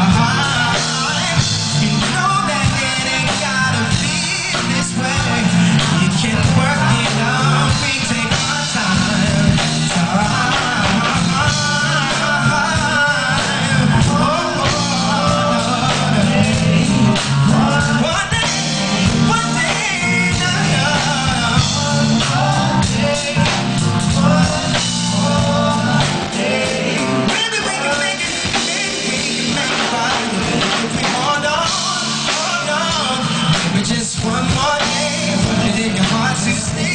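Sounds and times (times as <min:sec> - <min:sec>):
live band with drums and bass: 0:00.0 - 0:36.9
man singing: 0:00.0 - 0:36.9.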